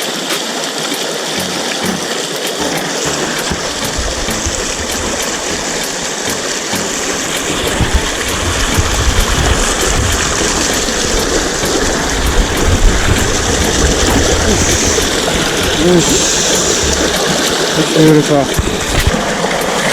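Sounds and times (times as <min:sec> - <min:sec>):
creek water rushing over rocks: 0:00.0 - 0:19.9.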